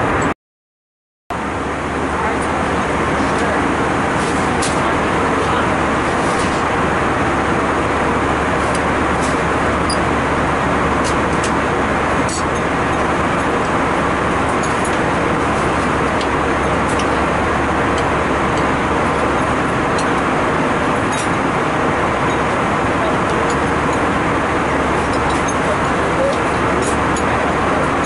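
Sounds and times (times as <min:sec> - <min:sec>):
airliner cabin rushing noise: 0:01.6 - 0:28.0.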